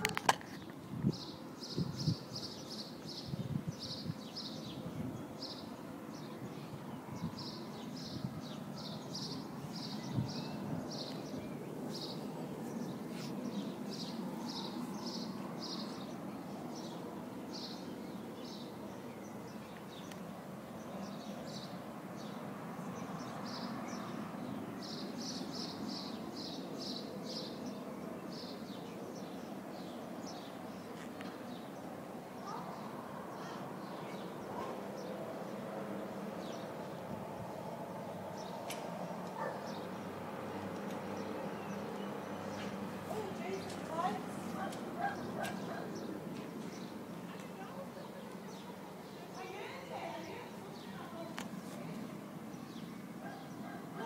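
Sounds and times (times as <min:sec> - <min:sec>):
low background noise: 0:00.0 - 0:54.0
small birds chirping: 0:00.0 - 0:54.0.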